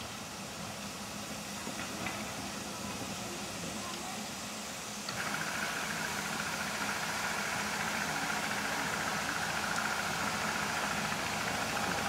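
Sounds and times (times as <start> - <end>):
steam hissing: 0.0 - 12.0
steam locomotive hum: 0.0 - 12.0.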